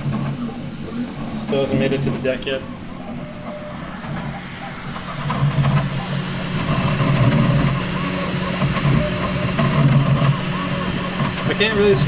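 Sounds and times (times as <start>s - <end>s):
steady hum: 0.0s - 12.0s
stepper motors whining: 0.0s - 12.0s.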